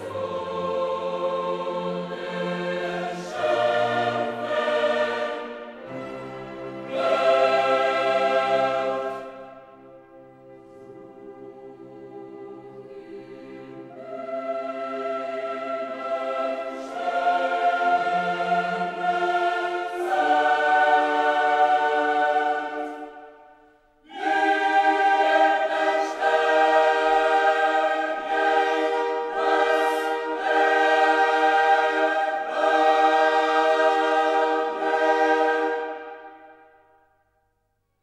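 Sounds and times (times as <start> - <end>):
choir singing held chords: 0.0 - 37.5.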